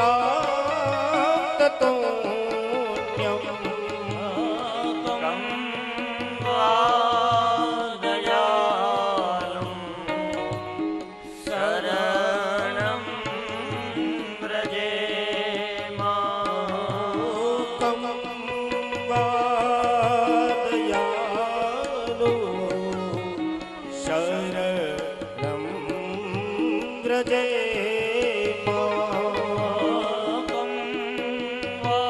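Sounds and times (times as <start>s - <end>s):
harmonium: 0.0s - 32.0s
men singing a devotional chant: 0.0s - 32.0s.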